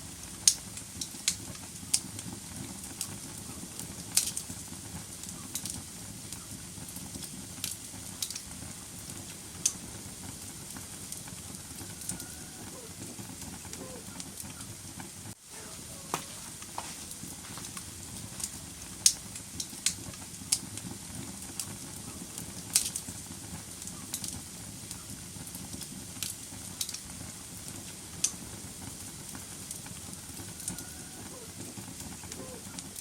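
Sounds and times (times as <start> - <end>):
low rush of burning: 0.0 - 32.4
wood fire crackling and popping: 0.0 - 33.0.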